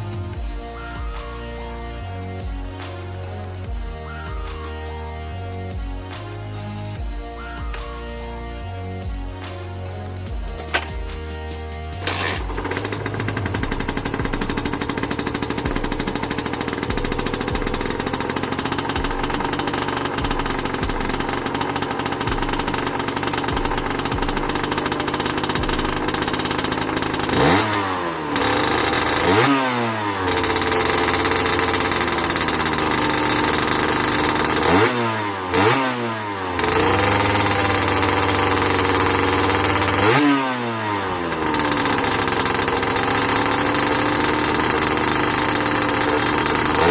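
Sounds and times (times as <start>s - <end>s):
motorbike engine idling and revving: 0.0s - 46.9s.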